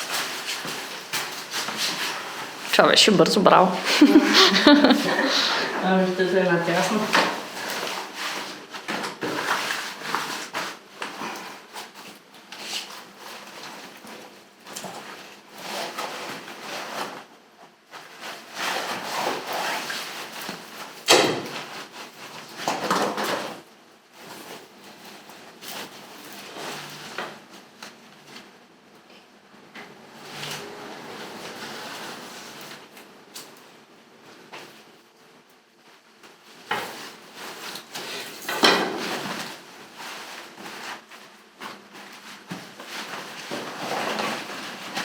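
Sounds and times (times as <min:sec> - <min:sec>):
rustling and scraping of handling: 0:00.0 - 0:45.0.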